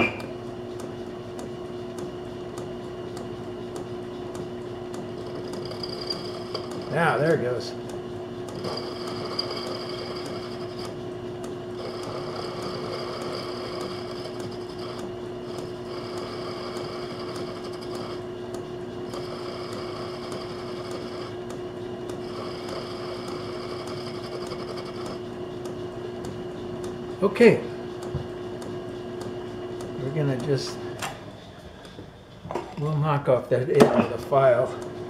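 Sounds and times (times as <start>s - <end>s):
metal lathe humming: 0.0s - 35.0s.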